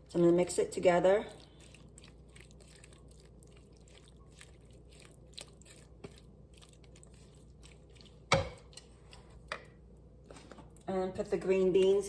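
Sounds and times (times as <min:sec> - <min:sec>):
food stirred in a bowl: 0:00.0 - 0:10.8.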